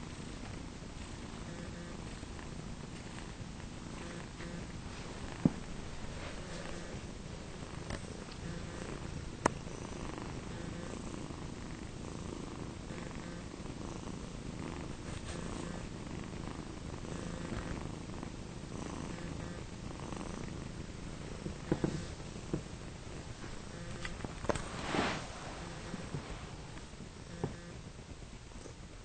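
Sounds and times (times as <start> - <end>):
cats purring: 0.0 - 29.0.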